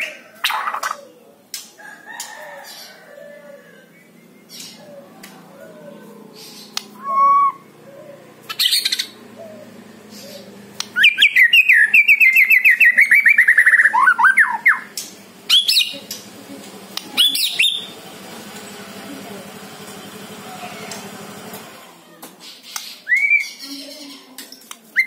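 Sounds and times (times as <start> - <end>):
bird singing: 2.3 - 21.2, 22.4 - 25.0.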